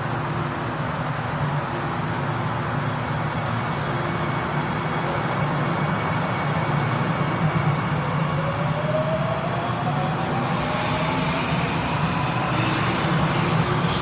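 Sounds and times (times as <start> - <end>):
metro train rumbling: 0.0 - 14.0.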